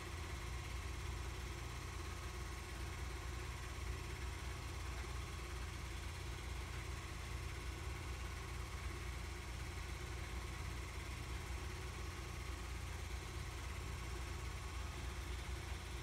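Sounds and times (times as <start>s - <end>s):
film projector motor whirring: 0.0s - 16.0s.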